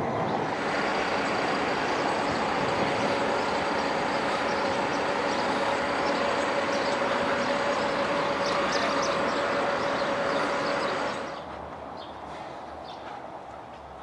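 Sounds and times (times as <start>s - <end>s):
street noise rush: 0.0s - 14.0s.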